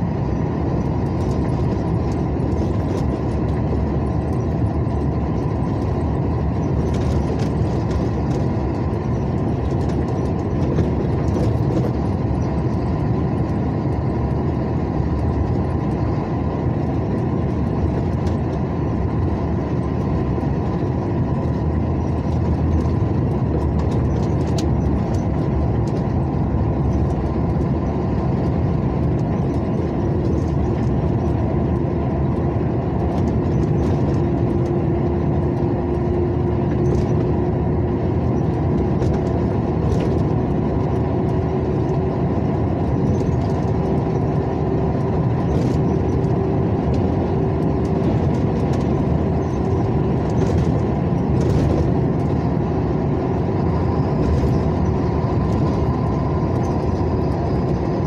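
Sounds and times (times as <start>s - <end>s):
vehicle driving on highway: 0.0s - 58.0s.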